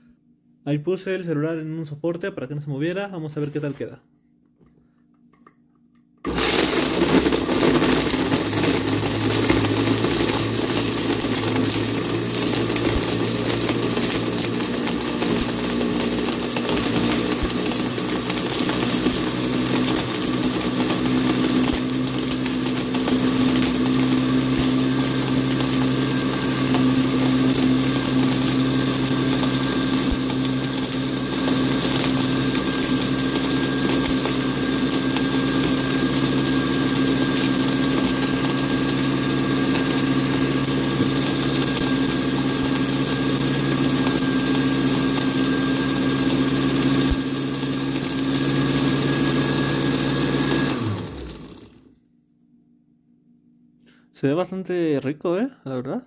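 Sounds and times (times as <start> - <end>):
blender motor running: 6.2 - 51.9.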